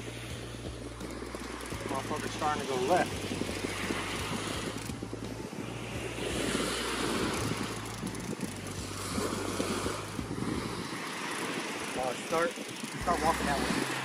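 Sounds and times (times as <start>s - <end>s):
surf hissing: 0.0s - 14.0s
wind buffeting microphone: 0.0s - 14.0s.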